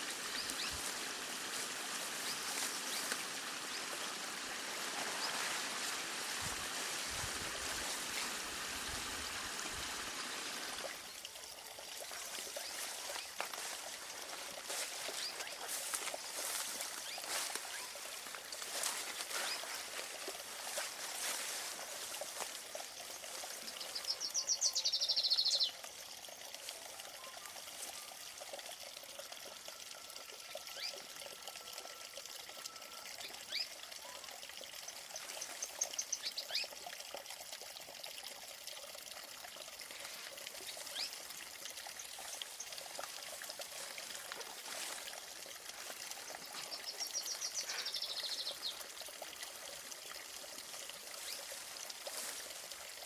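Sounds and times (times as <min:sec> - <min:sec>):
stream trickling: 0:00.0 - 0:53.0.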